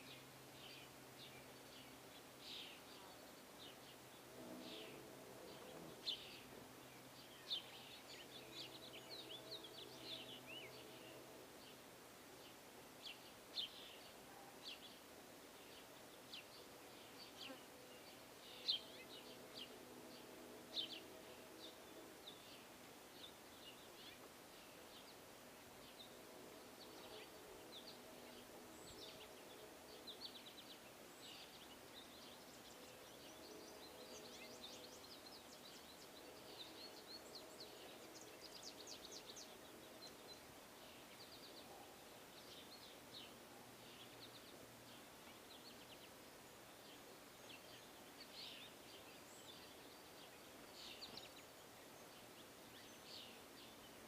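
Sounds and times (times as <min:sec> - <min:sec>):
faint low hum: 0:00.0 - 0:54.0
small birds chirping: 0:00.0 - 0:54.0.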